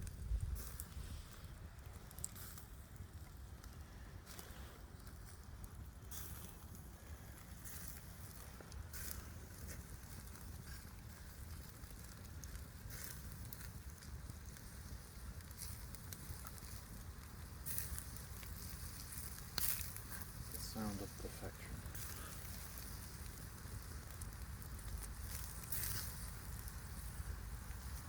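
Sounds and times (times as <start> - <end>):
campfire crackling and popping: 0.0 - 28.0
low fire rumble: 0.0 - 28.0.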